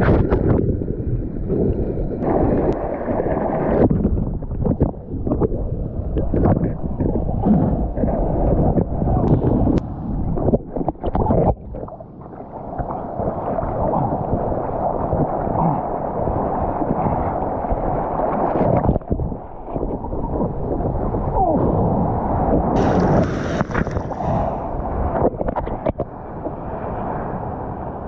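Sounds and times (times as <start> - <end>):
wind buffeting microphone: 0.0 - 12.3, 13.0 - 28.0
sea water rushing and splashing: 0.0 - 28.0.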